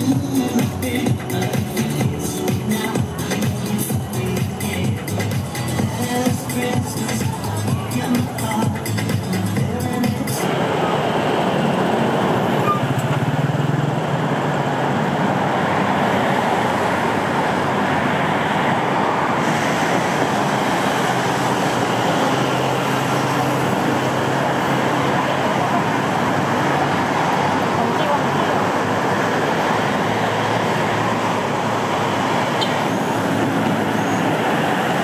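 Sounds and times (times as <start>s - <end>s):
traffic rumble and hiss: 0.0s - 35.0s.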